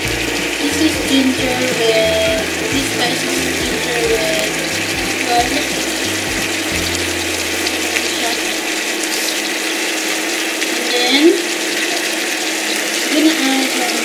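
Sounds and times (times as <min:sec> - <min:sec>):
sauce simmering in a frying pan: 0:00.0 - 0:14.0.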